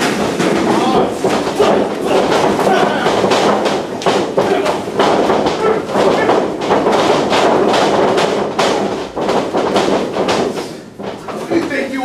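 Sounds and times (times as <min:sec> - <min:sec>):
sharp thuds and smacks: 0:00.0 - 0:11.7.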